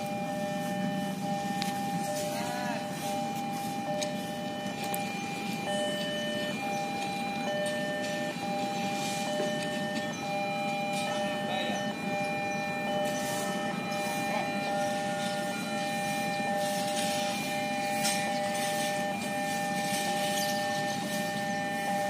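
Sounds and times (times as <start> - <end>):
level crossing alarm tones: 0.0 - 22.0
low rumble of traffic: 0.0 - 22.0.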